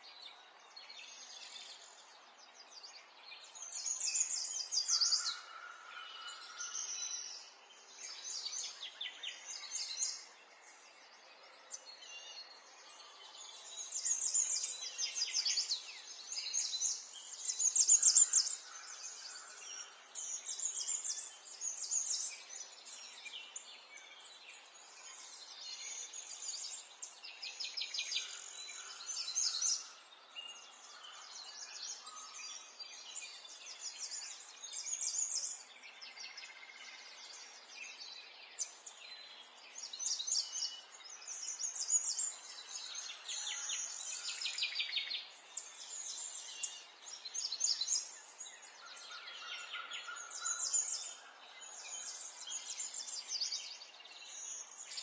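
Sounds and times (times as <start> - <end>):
birds singing and trilling: 0.0 - 55.0.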